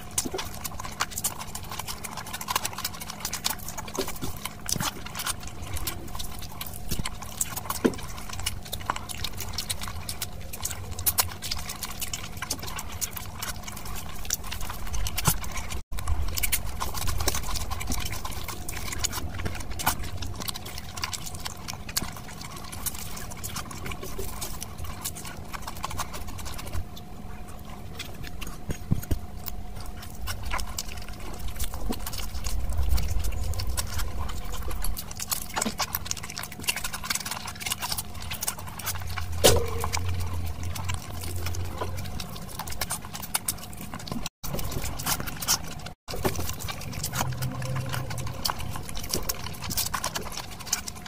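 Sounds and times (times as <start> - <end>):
rice squelching mixed by hand: 0.0 - 51.0
wet chewing and smacking: 0.0 - 51.0.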